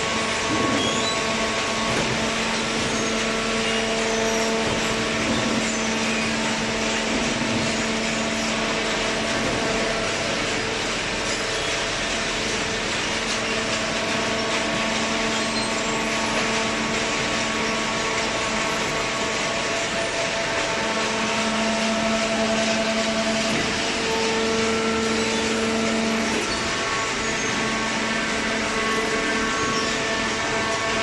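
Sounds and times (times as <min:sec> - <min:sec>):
industrial machine humming: 0:00.0 - 0:31.0.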